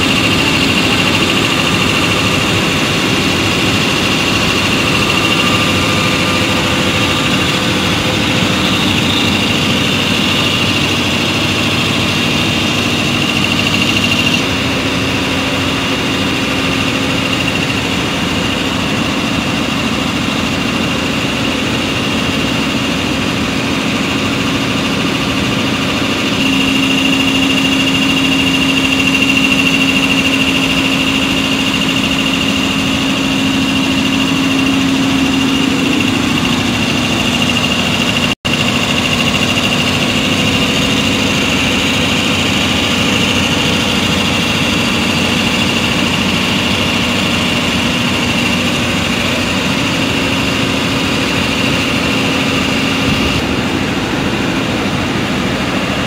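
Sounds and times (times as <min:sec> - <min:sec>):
compressor drone: 0:00.0 - 0:56.0
high whine: 0:00.0 - 0:56.0.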